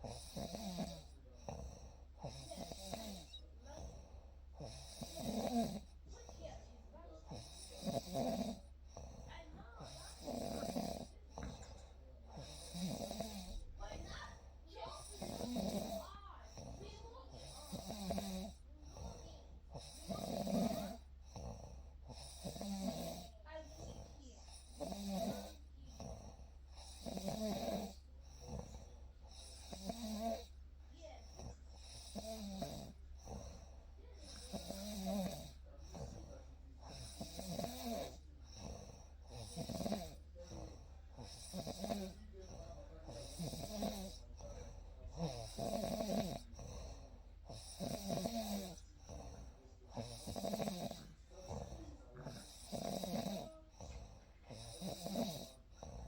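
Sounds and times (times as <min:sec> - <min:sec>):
person snoring: 0:00.0 - 0:06.0, 0:07.3 - 0:14.2, 0:14.8 - 0:30.6, 0:31.2 - 0:56.0.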